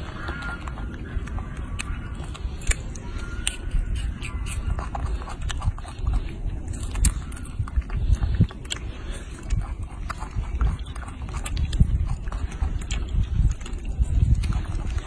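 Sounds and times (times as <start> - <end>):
monkey chewing tomato: 0.0 - 15.0
steady low rumble: 0.0 - 15.0.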